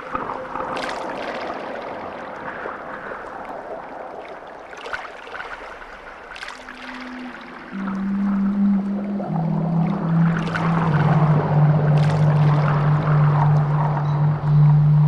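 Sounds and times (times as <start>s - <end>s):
water rushing: 0.0s - 15.0s
water splashes: 0.0s - 15.0s.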